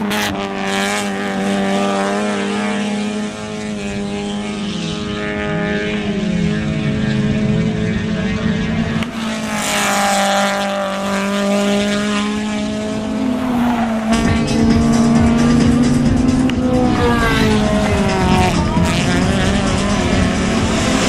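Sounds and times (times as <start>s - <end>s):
racing engines revving: 0.0s - 21.0s.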